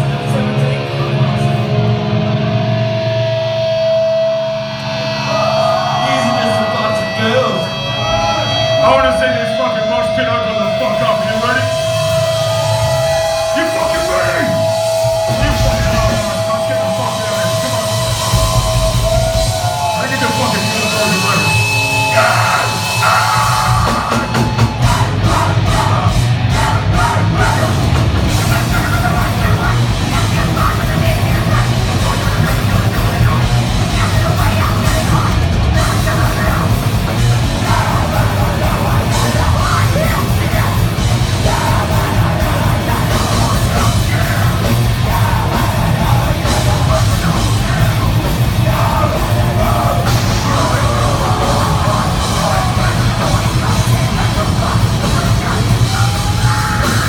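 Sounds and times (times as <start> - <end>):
distorted guitars: 0.0 - 57.0
drums: 0.0 - 57.0.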